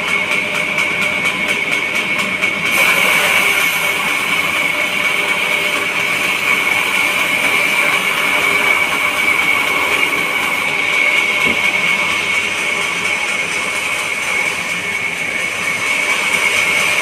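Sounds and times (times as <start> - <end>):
noisy mechanical rush: 0.0 - 17.0
sawmill saw whining: 0.0 - 17.0.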